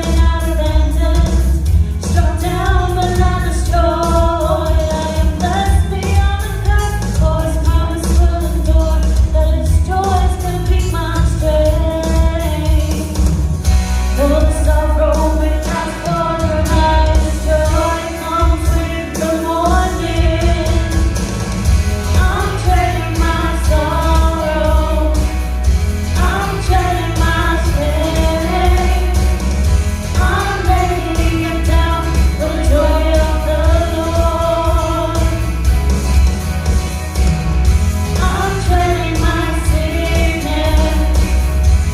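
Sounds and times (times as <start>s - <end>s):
person singing a melody: 0.0s - 13.2s, 14.2s - 21.3s, 22.1s - 35.6s, 38.2s - 41.7s
instrumental accompaniment with bass: 0.0s - 41.9s.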